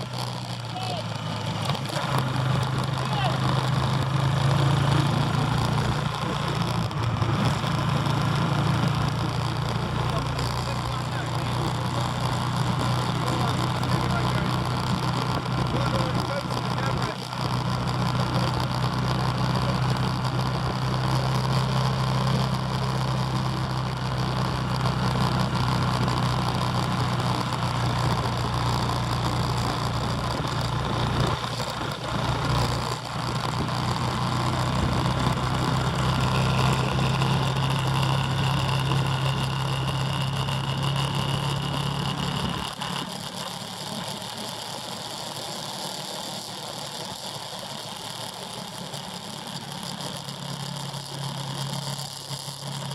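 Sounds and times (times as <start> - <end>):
motorbike engine running: 0.0 - 52.9.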